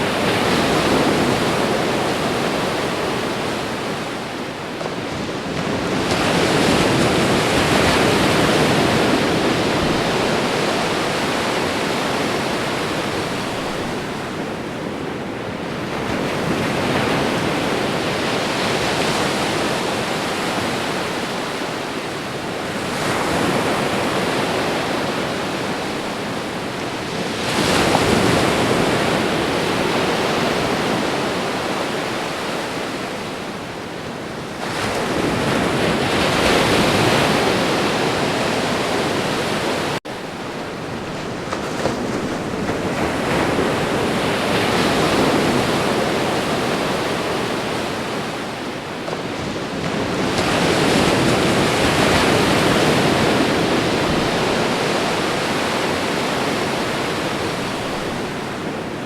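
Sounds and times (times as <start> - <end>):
ocean waves crashing: 0.0 - 59.0.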